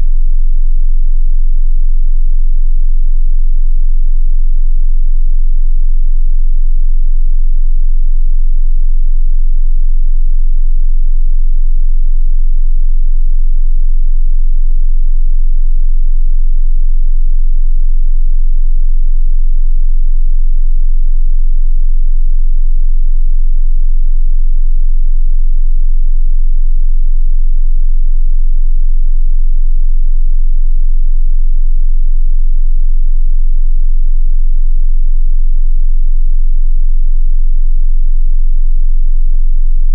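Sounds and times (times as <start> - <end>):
sub-bass sine test tone: 0.0 - 39.9.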